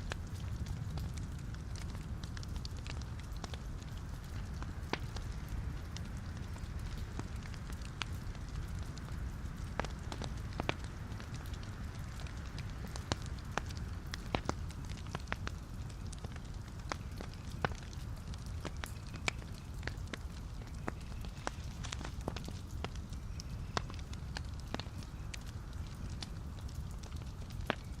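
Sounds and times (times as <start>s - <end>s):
logs crackling and popping: 0.0s - 28.0s
low rumble of flames: 0.0s - 28.0s.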